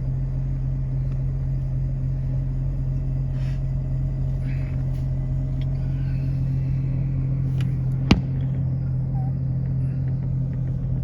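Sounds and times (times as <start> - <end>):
car idling hum: 0.0 - 11.0.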